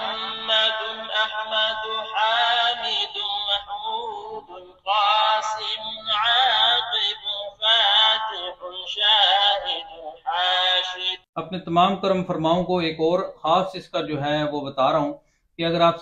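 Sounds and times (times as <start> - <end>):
man chanting through small speaker: 0.0 - 16.0.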